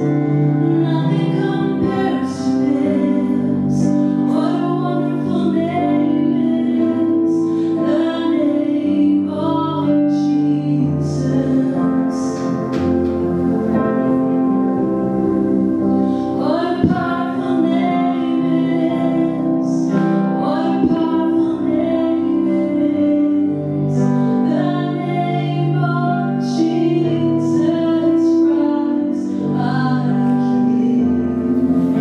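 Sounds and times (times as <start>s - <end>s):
instrumental accompaniment: 0.0s - 32.0s
woman singing into microphone: 0.0s - 32.0s.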